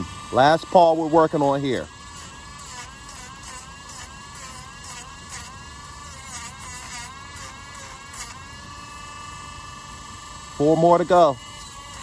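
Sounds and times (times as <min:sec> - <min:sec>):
rotary tool grinding nails: 0:00.0 - 0:12.0.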